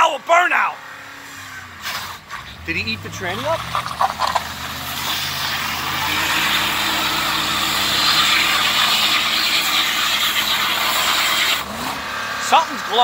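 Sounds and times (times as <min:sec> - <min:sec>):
car engine running: 0:00.6 - 0:13.0
spinning tyres hissing: 0:00.9 - 0:13.0.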